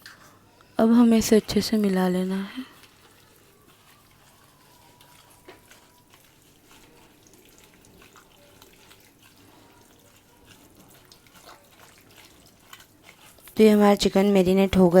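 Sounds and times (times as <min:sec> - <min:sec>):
wet squishing of mixing: 0:00.5 - 0:15.0.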